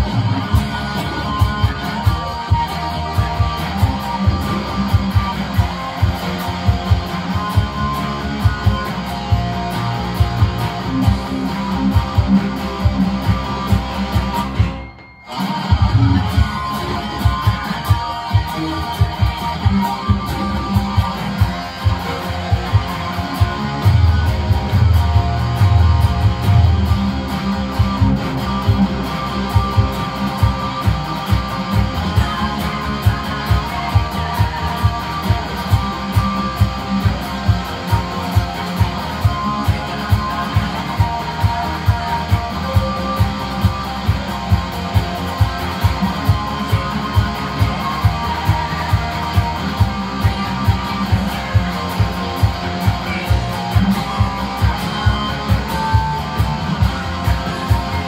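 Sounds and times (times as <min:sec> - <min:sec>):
disco backing track: 0:00.0 - 0:58.0
electric guitar picking: 0:00.0 - 0:58.0.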